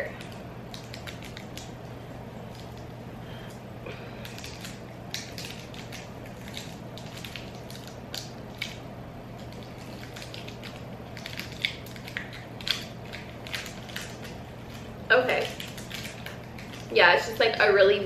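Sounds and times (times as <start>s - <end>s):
wrapper crinkling: 0.0s - 2.9s, 4.2s - 17.4s.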